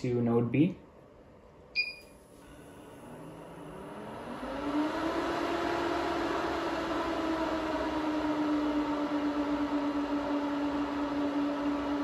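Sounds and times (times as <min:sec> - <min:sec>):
cooling fans whirring: 0:01.8 - 0:12.0.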